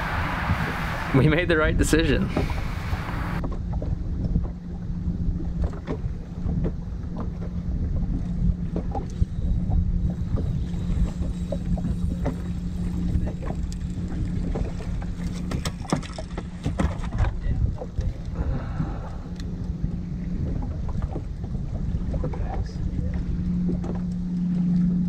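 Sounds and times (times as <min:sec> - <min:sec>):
hull slapping water: 0:00.0 - 0:25.0
outboard motor running: 0:00.0 - 0:25.0
wind on microphone: 0:00.0 - 0:25.0.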